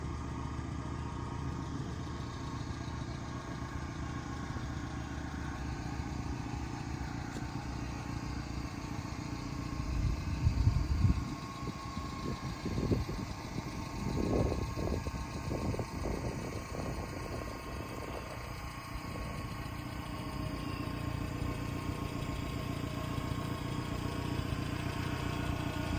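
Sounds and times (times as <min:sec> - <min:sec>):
small truck engine idling: 0:00.0 - 0:25.9.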